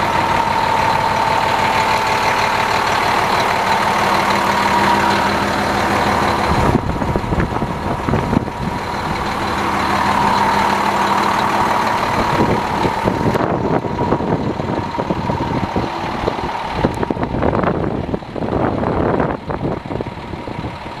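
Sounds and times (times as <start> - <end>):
steady high whine: 0.0 - 19.3
diesel engine idling: 0.0 - 21.0.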